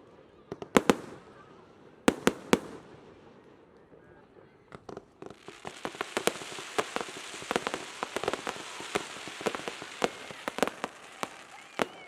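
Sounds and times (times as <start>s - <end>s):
crackling fireworks: 0.0s - 12.0s.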